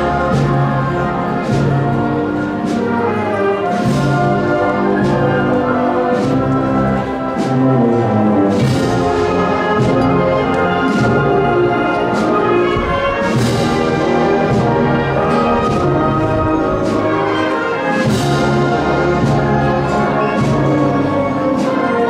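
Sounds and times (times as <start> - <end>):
brass band playing a march: 0.0 - 22.0
percussion strikes: 0.0 - 22.0.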